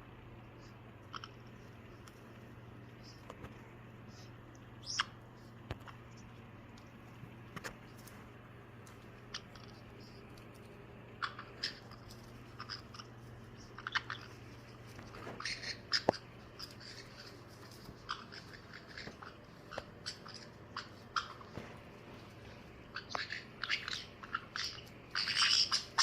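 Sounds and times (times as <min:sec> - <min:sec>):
faint low hum: 0:00.0 - 0:26.0
beaks and feet clicking: 0:00.4 - 0:26.0
parrots chirping: 0:00.6 - 0:03.4, 0:04.1 - 0:06.4, 0:09.0 - 0:26.0.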